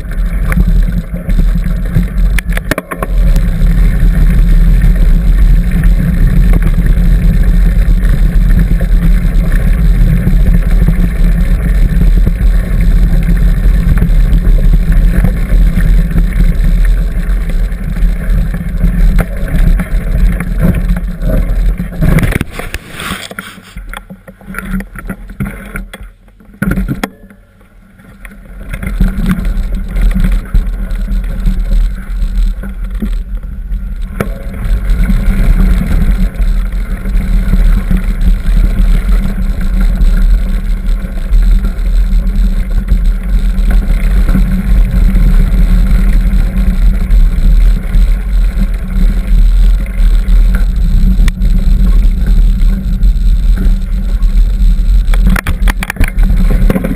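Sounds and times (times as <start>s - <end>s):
bike rattling over dirt: 0.0s - 56.9s.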